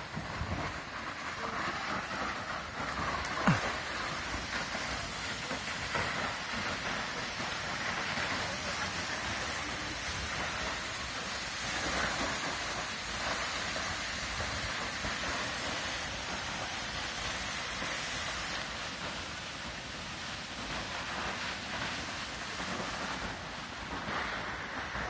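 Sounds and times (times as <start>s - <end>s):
waterfall pouring into pool: 0.0s - 25.0s.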